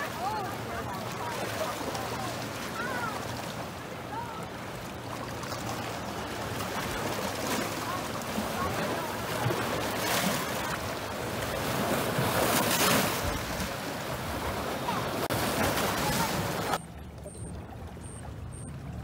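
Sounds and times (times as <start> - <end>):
waves splashing against rocks: 0.0 - 17.1.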